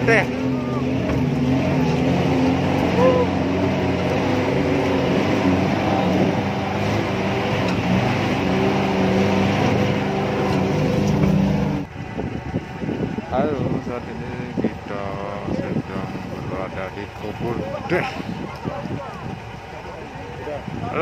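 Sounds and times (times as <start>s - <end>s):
jeep engine running: 0.0s - 21.0s.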